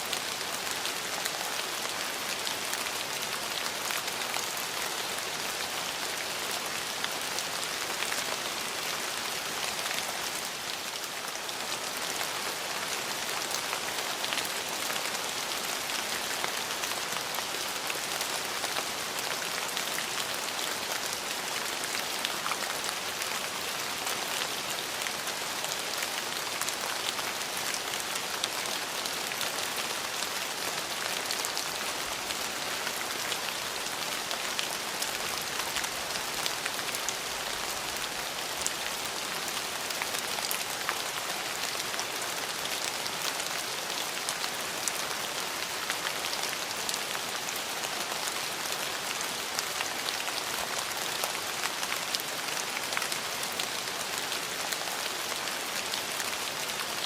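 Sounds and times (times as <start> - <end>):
steady rain hiss: 0.0 - 57.0
raindrops pattering on surfaces: 0.1 - 57.0.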